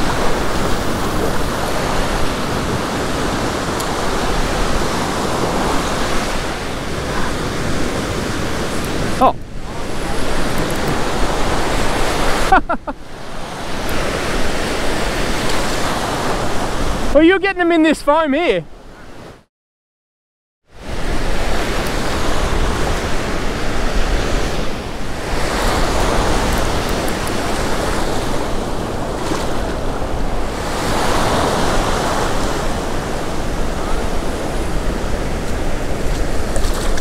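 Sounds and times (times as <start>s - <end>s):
ocean surf breaking: 0.0s - 19.4s, 20.8s - 37.0s.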